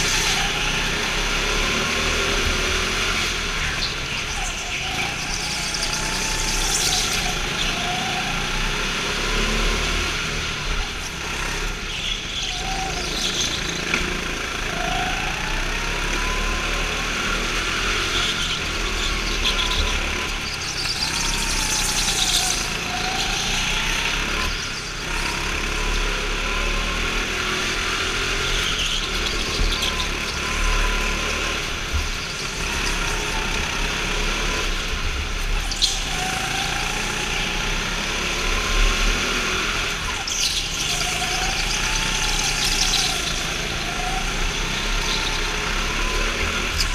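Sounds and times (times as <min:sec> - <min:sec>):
go-kart engine revving: 0:00.0 - 0:46.9.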